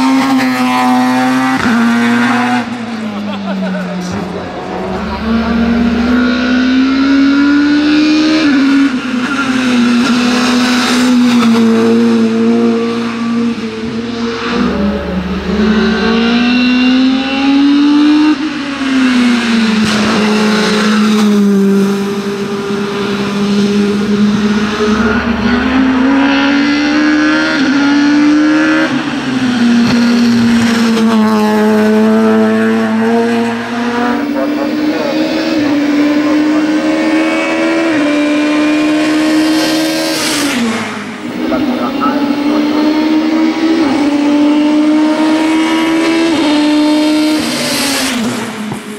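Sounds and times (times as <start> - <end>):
racing car engine revving: 0.0 - 48.9.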